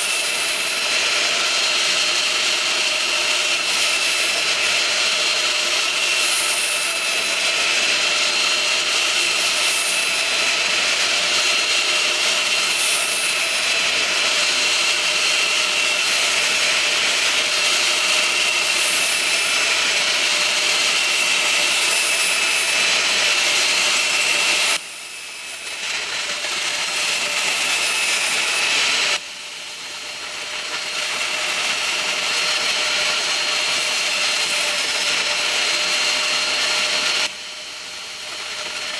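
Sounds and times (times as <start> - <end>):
woodworking machine motor whining: 0.0 - 38.9.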